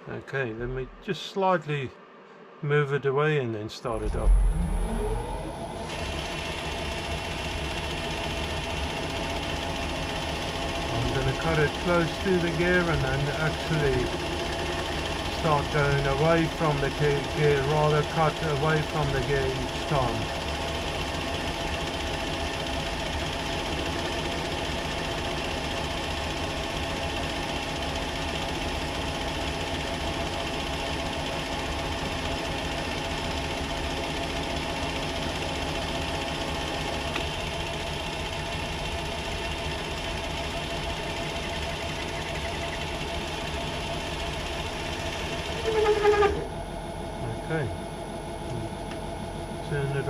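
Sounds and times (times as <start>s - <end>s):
metal lathe cutting: 5.6s - 46.5s.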